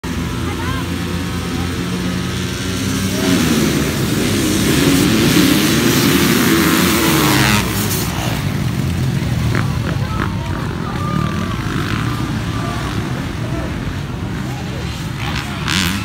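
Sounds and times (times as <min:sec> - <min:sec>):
dirt bikes racing past: 0:00.0 - 0:16.0.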